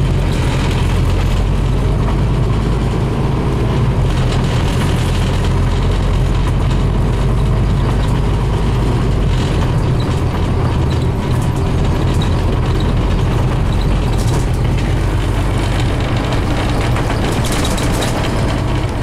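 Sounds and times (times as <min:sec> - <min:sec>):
bus body rattles: 0:00.0 - 0:19.0
diesel engine drone: 0:00.0 - 0:19.0
road noise: 0:00.0 - 0:19.0.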